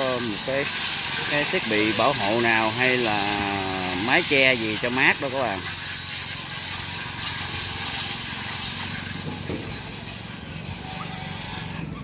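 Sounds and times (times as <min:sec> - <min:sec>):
power grinders grinding wood: 0:00.0 - 0:12.0.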